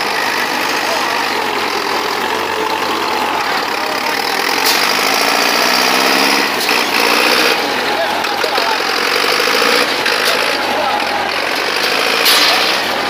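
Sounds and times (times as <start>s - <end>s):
tractor engines under heavy load: 0.0s - 13.0s.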